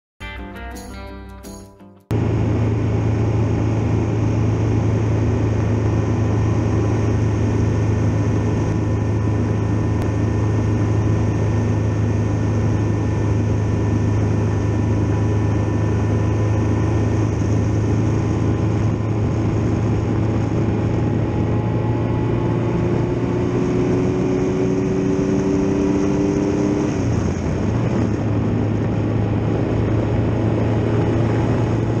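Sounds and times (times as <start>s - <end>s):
motorcycle engine droning: 1.5s - 32.0s
wind and road noise: 2.1s - 32.0s.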